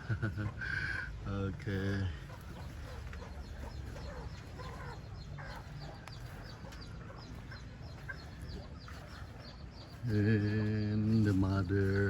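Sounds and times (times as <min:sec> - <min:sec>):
chickens clucking: 0:00.0 - 0:12.0
chicks peeping: 0:01.7 - 0:12.0.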